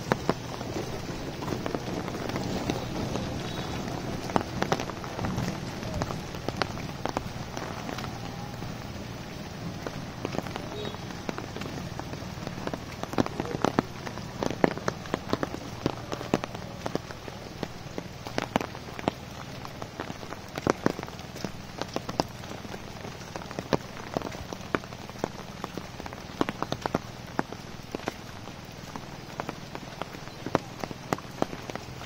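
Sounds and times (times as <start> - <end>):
heavy rain hissing: 0.0 - 32.0
large raindrops tapping: 0.0 - 32.0.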